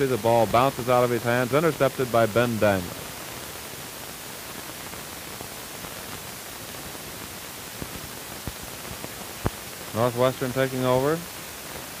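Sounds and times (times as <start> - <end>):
old film soundtrack hiss: 0.0 - 12.0.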